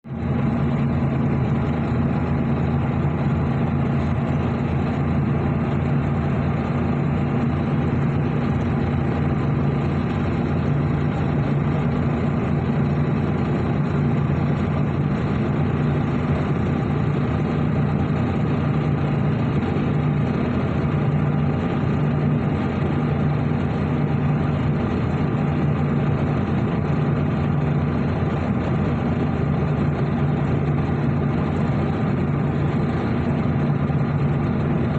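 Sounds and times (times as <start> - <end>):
engine humming steadily: 0.0 - 34.9.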